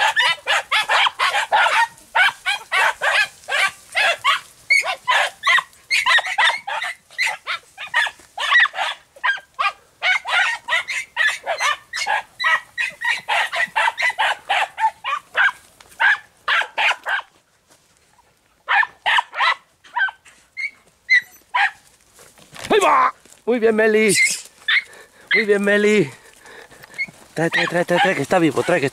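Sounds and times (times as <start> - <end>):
hunting dogs yelping: 0.0 - 17.3, 18.6 - 21.9, 24.0 - 28.9.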